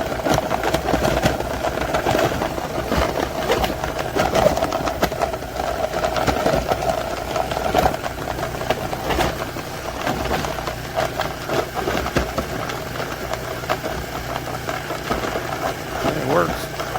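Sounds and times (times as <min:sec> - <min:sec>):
clicks and rattles of grating: 0:00.0 - 0:16.9
food processor motor humming: 0:00.0 - 0:16.9.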